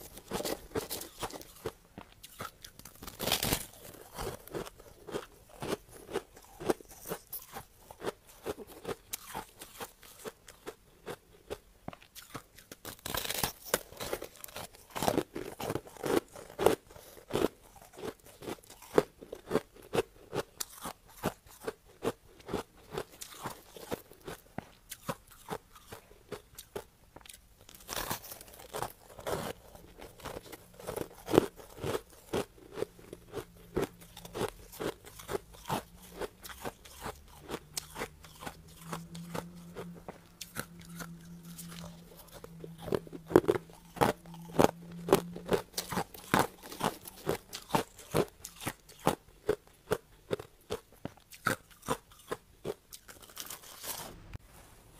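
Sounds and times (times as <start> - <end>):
crushed ice being chewed: 0.0 - 54.2.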